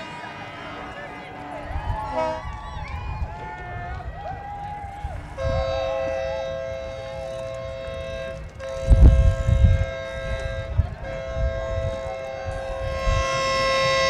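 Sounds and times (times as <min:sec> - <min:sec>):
two-tone horn blasts: 0:00.0 - 0:14.0.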